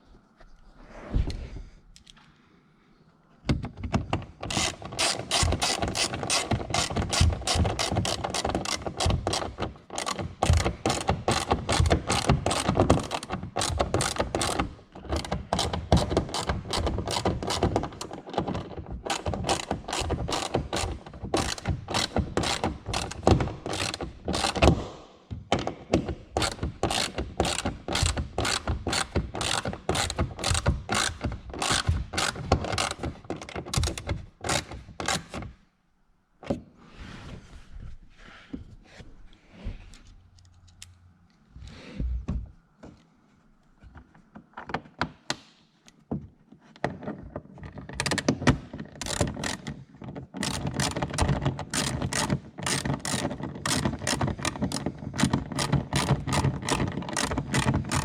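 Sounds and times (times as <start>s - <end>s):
knocks and handling: 3.3s - 35.6s, 36.4s - 58.0s.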